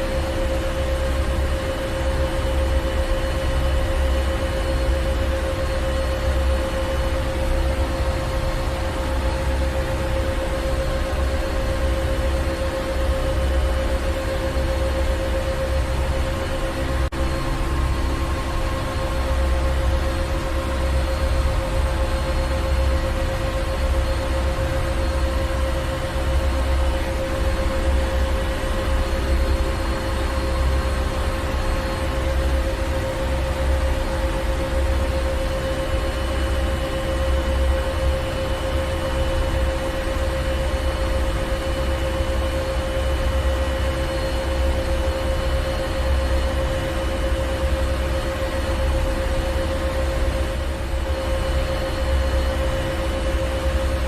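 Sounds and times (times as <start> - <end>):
steady machinery hum: 0.0 - 54.0.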